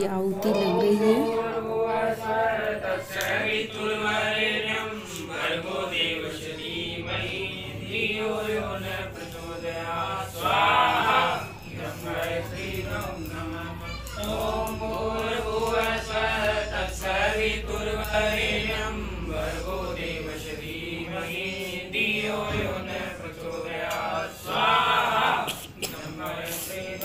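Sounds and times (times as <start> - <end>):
voices chanting together: 0.1 - 27.0.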